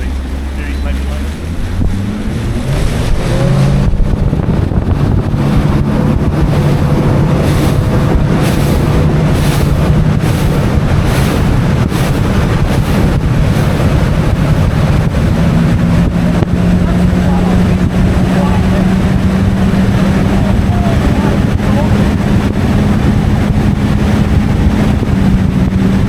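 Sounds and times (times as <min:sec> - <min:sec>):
outboard motor running: 0:00.0 - 0:26.0
wind on microphone: 0:00.0 - 0:26.0.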